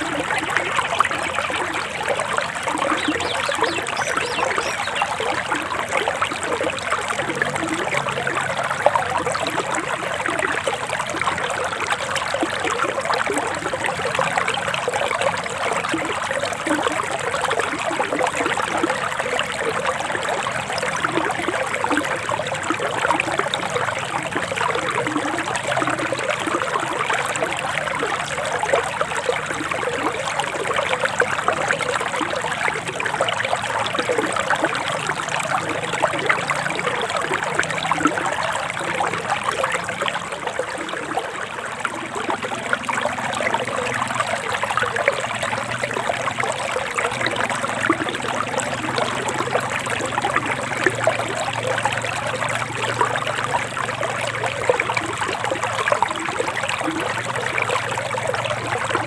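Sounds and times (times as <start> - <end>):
stream babbling: 0.0 - 59.0.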